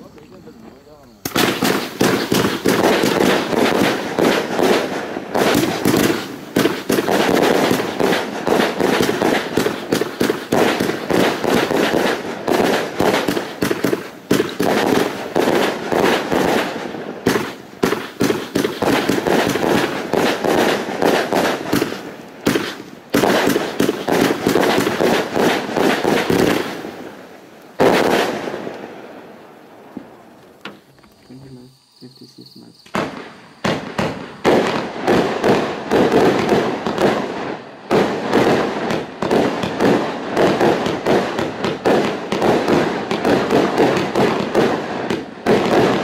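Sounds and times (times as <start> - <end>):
firework battery firing rapidly: 1.2 - 27.2, 27.8 - 28.6, 32.9 - 46.0.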